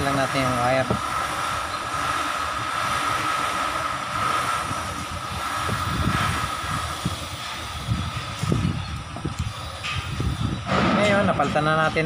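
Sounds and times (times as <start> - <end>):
high mechanical whine: 0.0 - 12.0.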